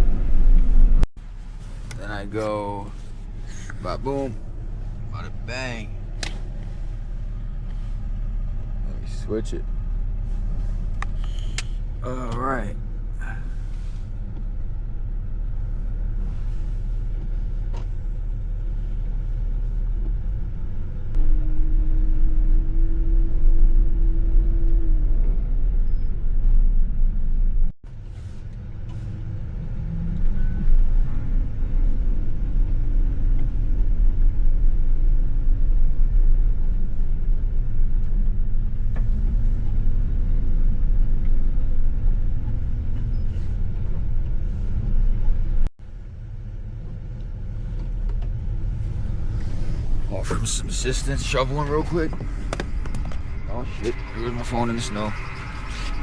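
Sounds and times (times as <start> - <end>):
truck engine rumbling: 0.0 - 56.0.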